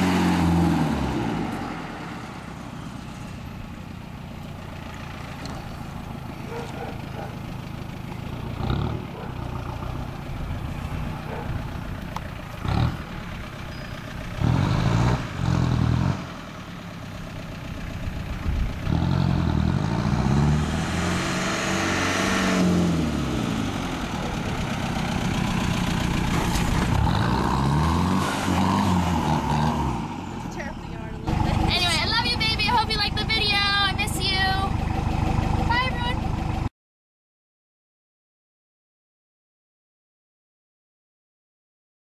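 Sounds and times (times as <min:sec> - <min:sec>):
diesel pickup engine revving: 0:00.0 - 0:36.7.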